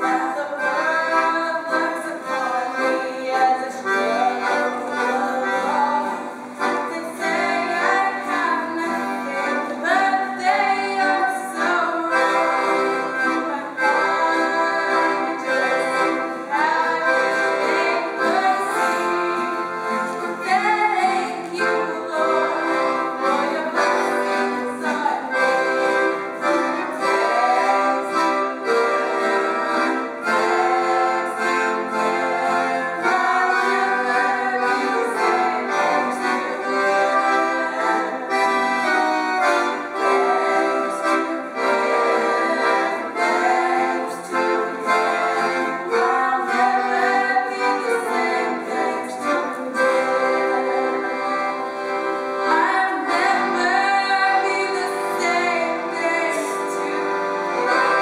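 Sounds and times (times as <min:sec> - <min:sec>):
women singing together: 0:00.0 - 0:51.7, 0:52.4 - 0:58.0
piano accordion: 0:00.0 - 0:58.0.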